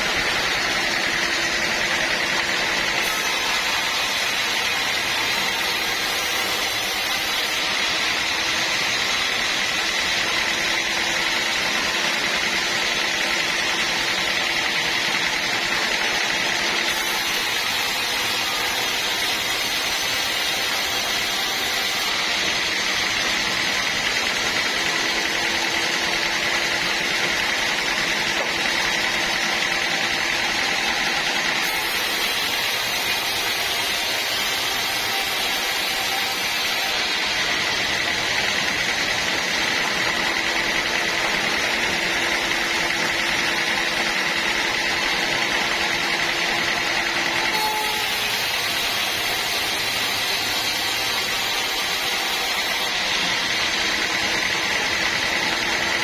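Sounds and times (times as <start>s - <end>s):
sawmill machinery whining: 0.0s - 56.0s.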